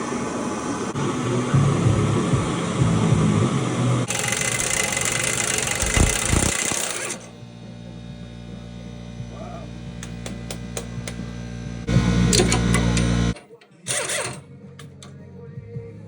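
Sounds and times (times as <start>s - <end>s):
power tool motor running: 0.0s - 14.4s.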